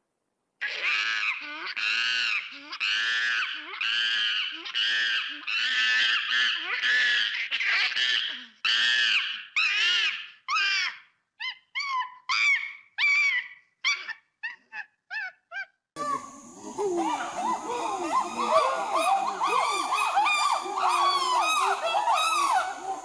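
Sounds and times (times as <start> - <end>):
monkey calling: 0.6 - 23.0.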